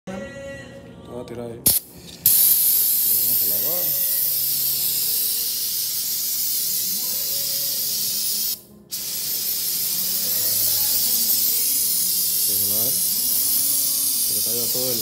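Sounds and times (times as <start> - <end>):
aerosol spray can hissing: 1.7 - 15.0.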